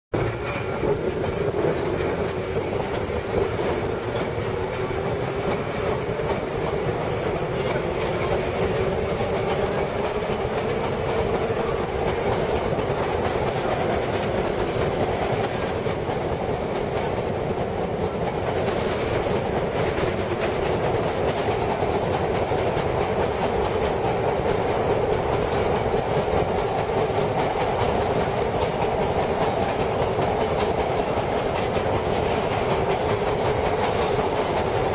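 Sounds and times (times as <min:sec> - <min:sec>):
subway wheels clattering over rail joints: 0:00.1 - 0:34.9
train hum: 0:00.1 - 0:34.9.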